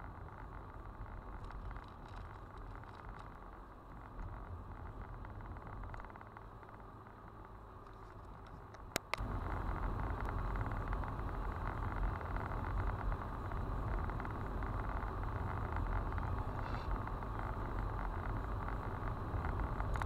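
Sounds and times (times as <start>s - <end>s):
tyre and engine rumble: 0.0s - 20.0s.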